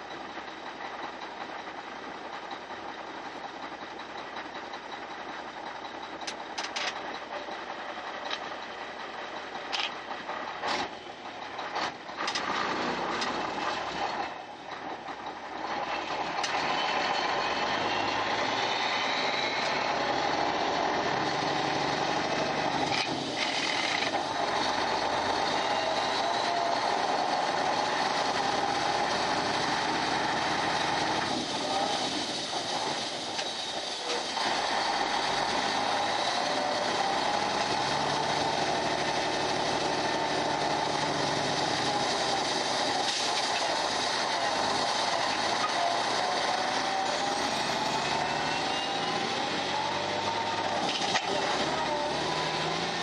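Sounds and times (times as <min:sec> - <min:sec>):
diesel truck engine pulling away: 0:00.0 - 0:53.0.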